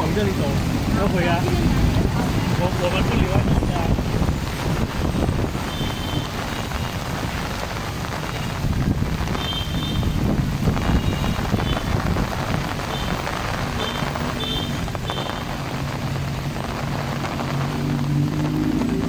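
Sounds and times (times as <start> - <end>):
heavy rain: 0.0 - 19.0
wind buffeting microphone: 0.0 - 19.0.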